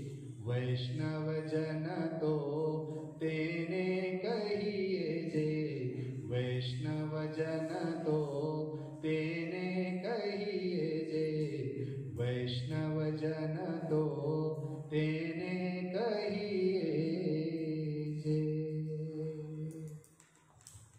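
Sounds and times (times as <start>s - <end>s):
man singing devotional song: 0.0s - 20.2s.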